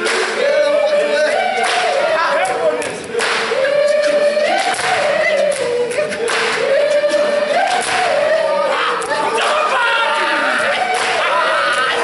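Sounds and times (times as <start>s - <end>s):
group singing without instruments: 0.0s - 12.0s.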